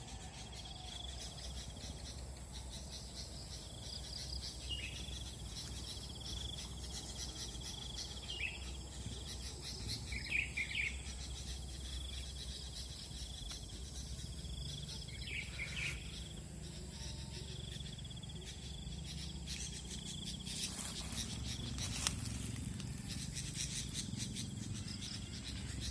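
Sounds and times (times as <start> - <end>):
bulbul bird calls: 0.0 - 25.9
high insect trill: 0.0 - 25.9.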